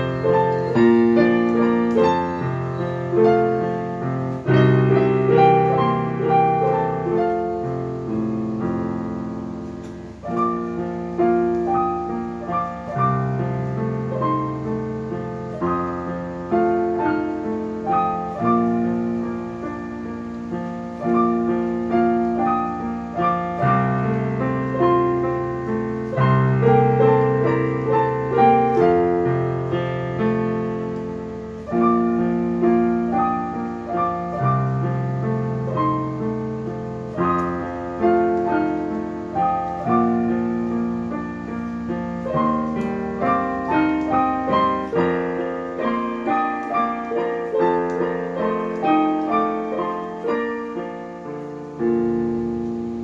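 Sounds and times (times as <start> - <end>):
digital piano melody: 0.0 - 53.0.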